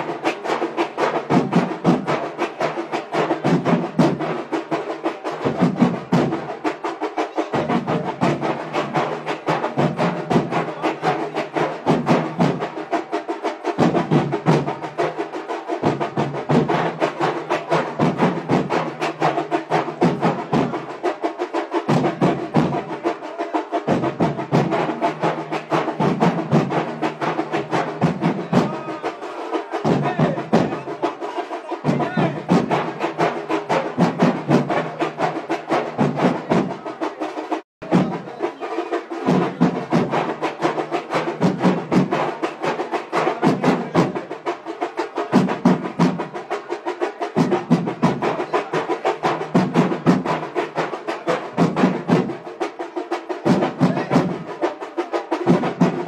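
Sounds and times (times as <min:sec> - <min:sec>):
fast continuous drumming: 0:00.0 - 0:56.0.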